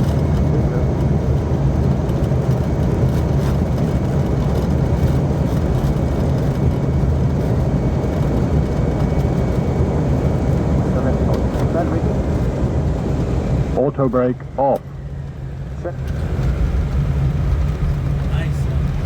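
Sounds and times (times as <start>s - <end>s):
deep rumble of airliner engines: 0.0s - 19.0s.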